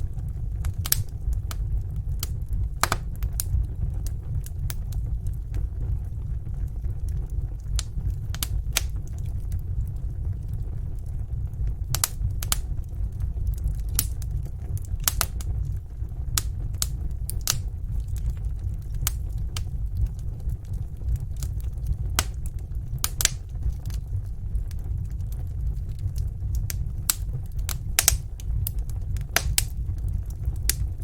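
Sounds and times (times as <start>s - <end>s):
fireplace fire crackling: 0.0s - 31.0s
low fire rumble: 0.0s - 31.0s.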